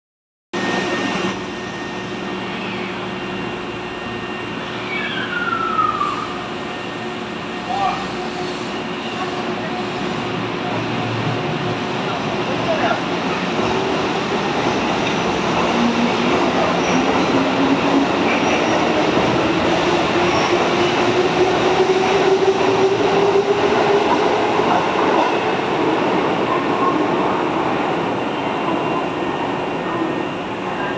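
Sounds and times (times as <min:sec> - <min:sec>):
train wheels rumbling on rails: 0:00.7 - 0:30.9.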